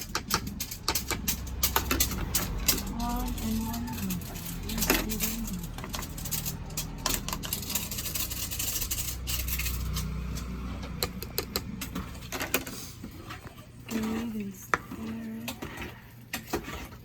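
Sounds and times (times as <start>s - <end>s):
utensil scraping a pan: 0.0s - 17.0s.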